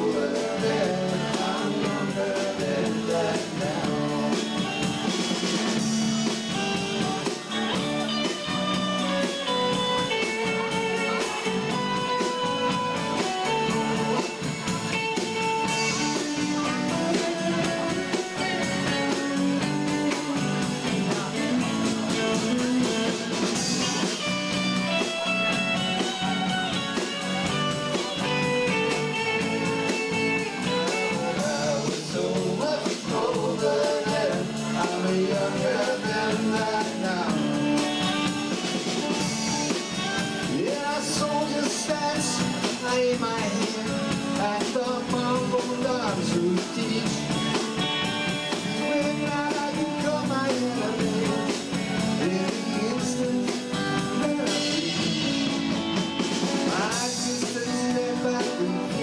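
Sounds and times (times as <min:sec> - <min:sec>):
bass guitar: 0:00.0 - 0:59.0
electric guitar: 0:00.0 - 0:59.0
live rock band playing: 0:00.0 - 0:59.0.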